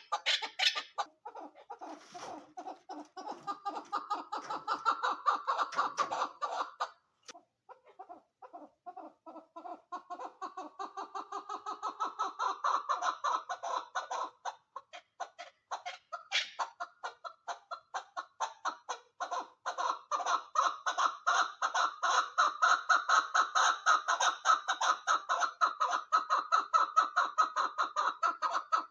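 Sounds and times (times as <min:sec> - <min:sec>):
partridge clucking calls: 0:00.0 - 0:28.9.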